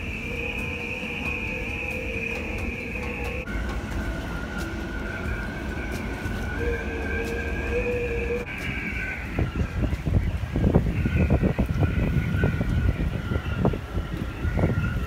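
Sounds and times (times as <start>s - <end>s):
storm wind howling: 0.0s - 15.0s
wind gusts buffeting microphone: 0.0s - 15.0s.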